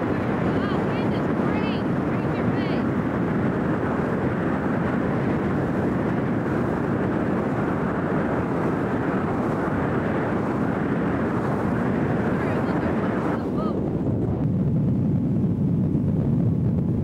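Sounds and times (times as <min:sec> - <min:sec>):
motorboat running: 0:00.0 - 0:17.0
wind on microphone: 0:00.0 - 0:17.0.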